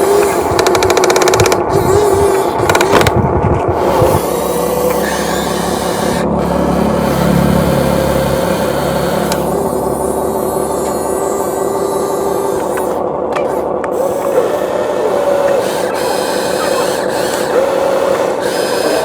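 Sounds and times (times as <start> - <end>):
low machine noise: 0.0 - 19.0
motor whine: 0.0 - 19.0.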